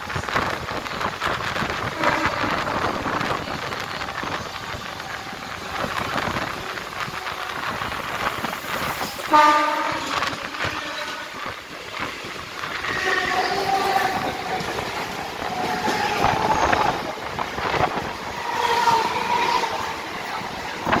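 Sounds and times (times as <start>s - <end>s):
train wheels rumbling and clattering: 0.0s - 21.0s.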